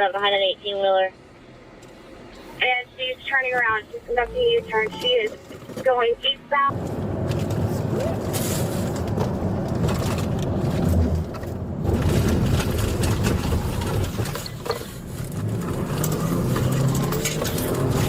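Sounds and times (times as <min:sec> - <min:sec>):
road noise: 0:00.0 - 0:18.0
car engine: 0:01.2 - 0:18.0.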